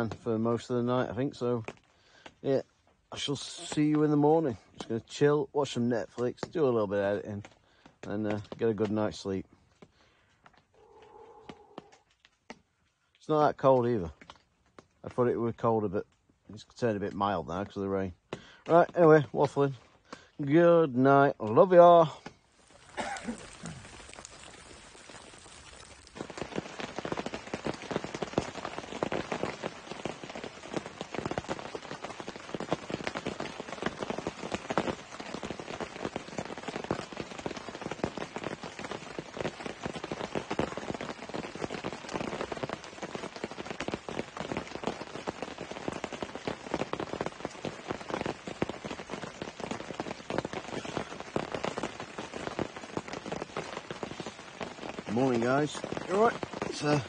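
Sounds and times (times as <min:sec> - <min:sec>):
rain on tent fabric: 0:00.0 - 0:57.0.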